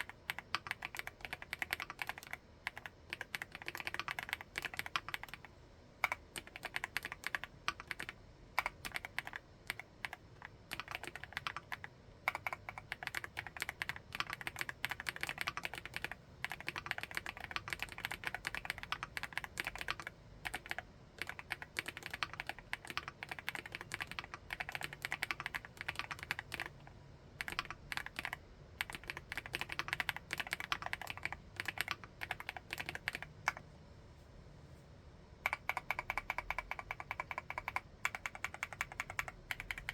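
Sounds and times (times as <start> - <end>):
mechanical keyboard typing: 0.0 - 33.6, 35.4 - 39.9.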